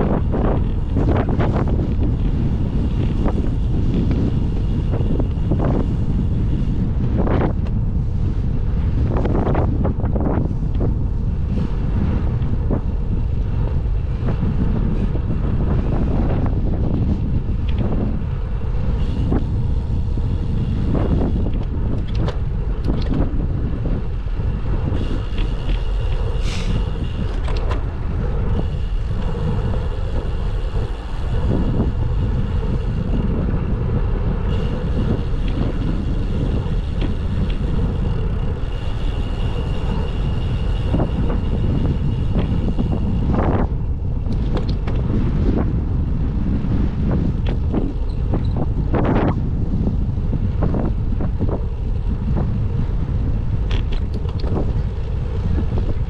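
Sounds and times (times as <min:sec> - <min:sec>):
bicycle tyre road noise: 0:00.0 - 0:56.0
wind rumble on microphone: 0:00.0 - 0:56.0.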